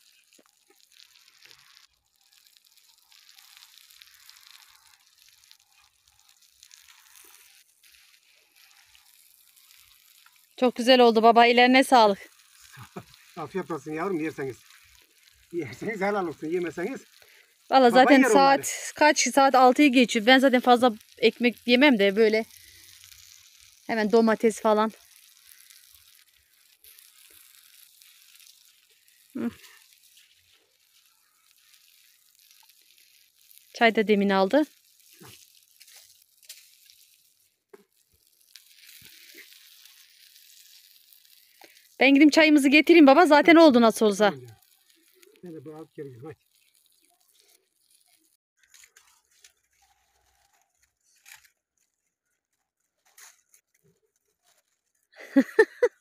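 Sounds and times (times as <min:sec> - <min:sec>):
meat sizzling: 0:00.0 - 0:56.0.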